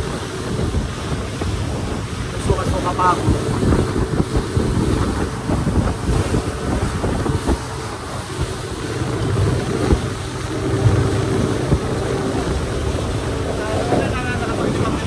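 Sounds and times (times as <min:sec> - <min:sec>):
motorboat engine drone: 0:00.0 - 0:15.0
water rushing along hull: 0:00.0 - 0:15.0
wind buffeting microphone: 0:00.0 - 0:15.0.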